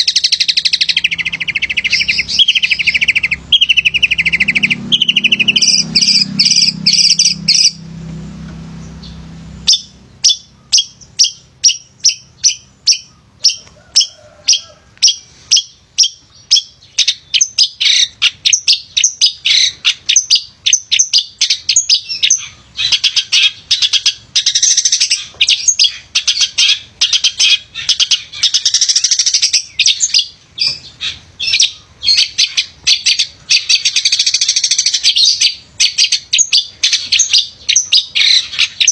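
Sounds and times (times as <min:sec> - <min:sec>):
shrike singing chattering song: 0:00.0 - 0:38.9.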